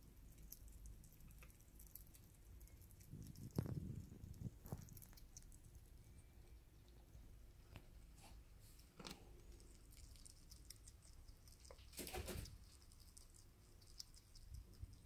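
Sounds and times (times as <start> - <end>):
crackling noise: 0.0 - 15.0
small animal chewing mealworms: 0.0 - 15.0.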